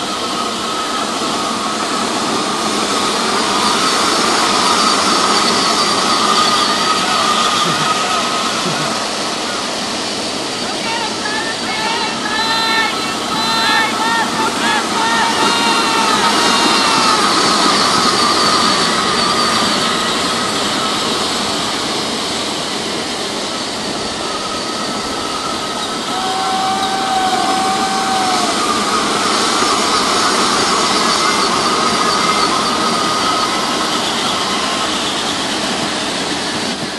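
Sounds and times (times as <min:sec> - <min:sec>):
electric motors whining: 0:00.0 - 0:36.9
steady hiss: 0:00.0 - 0:36.9.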